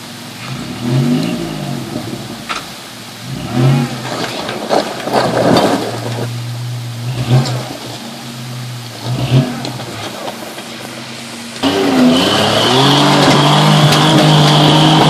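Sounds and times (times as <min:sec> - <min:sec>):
engine revving under load: 0:00.0 - 0:15.0
loud rough noise: 0:00.0 - 0:15.0.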